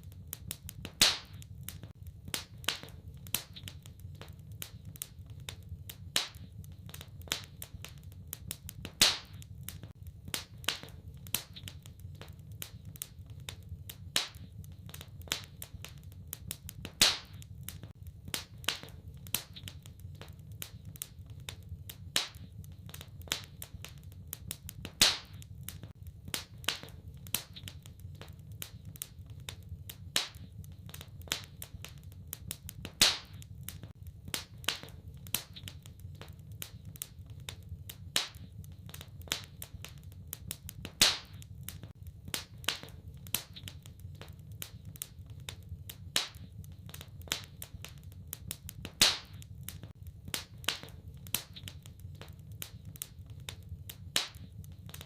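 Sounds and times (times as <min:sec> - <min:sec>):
low steady fire rumble: 0:00.0 - 0:55.0
wood fire crackling: 0:00.0 - 0:55.0.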